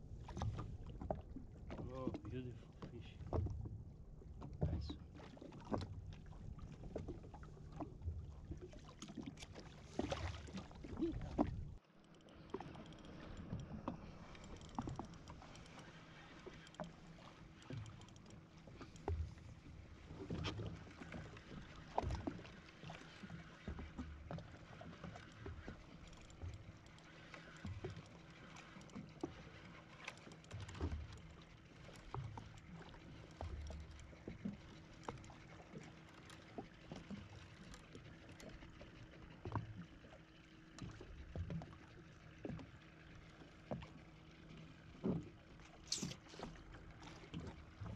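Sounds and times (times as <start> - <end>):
water slapping against hull: 0.0 - 47.9.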